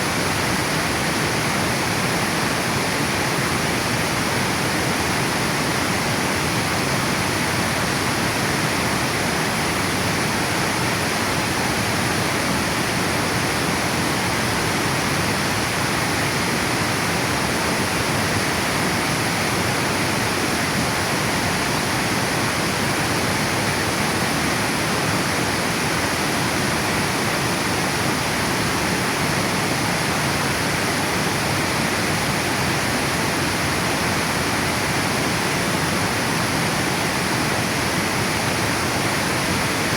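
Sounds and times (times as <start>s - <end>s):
water rushing over dam: 0.0s - 39.9s.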